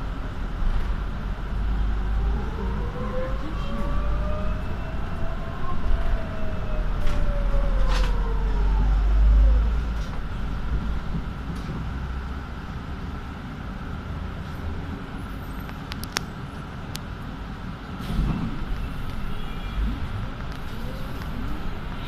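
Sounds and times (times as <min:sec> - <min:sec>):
bus rumble: 0:00.0 - 0:22.0
traffic: 0:00.0 - 0:22.0.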